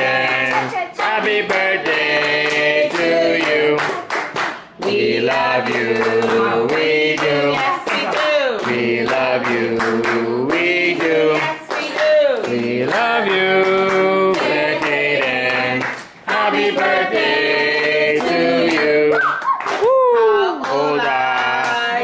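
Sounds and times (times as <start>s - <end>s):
group singing birthday song: 0.0s - 19.7s, 20.4s - 22.0s
hands clapping along: 0.0s - 22.0s.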